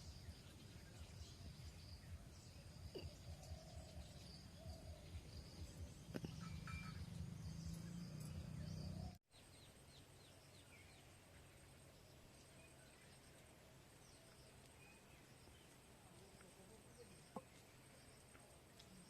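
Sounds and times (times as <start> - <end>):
bird chirps: 0.0 - 19.0.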